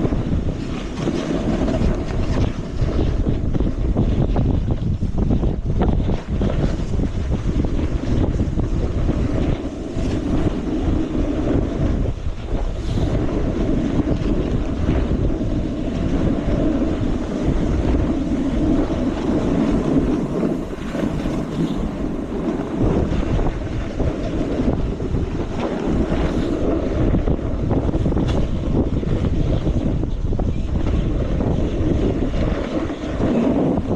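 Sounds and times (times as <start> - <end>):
snowboard sliding on snow: 0.0 - 33.9
wind rushing over microphone: 0.0 - 33.9.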